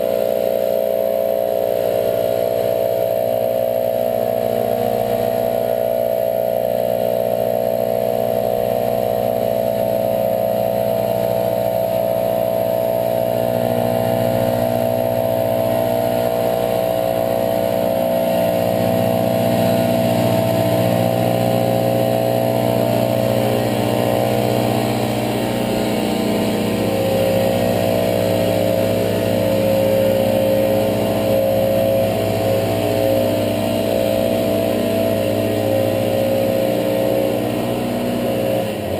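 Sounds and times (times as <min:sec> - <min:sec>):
leaf blowers running: 0:00.0 - 0:38.9.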